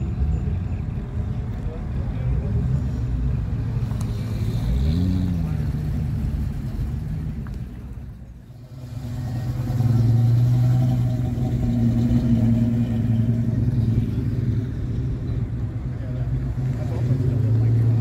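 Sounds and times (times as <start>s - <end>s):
car engine low drone: 0.0s - 18.0s
car engines passing slowly: 0.0s - 18.0s.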